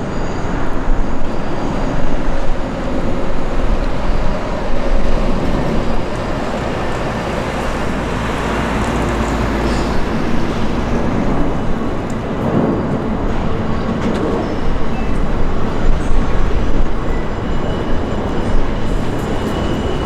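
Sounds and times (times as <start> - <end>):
city traffic noise: 0.0 - 20.0
electric train rumbling: 0.0 - 20.0.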